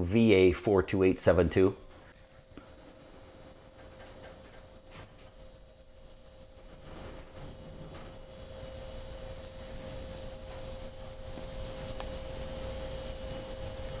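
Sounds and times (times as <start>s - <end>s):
steady high-pitched whine: 0.0s - 14.0s.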